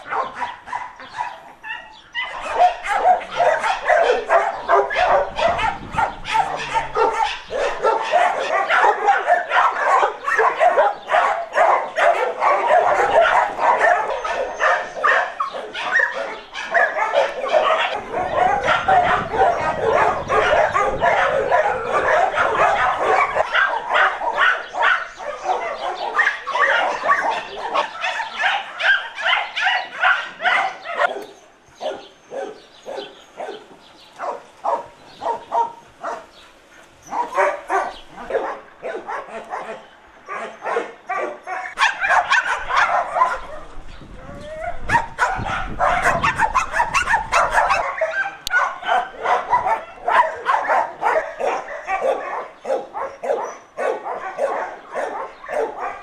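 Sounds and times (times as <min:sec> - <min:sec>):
many dogs barking: 0:00.0 - 0:56.0.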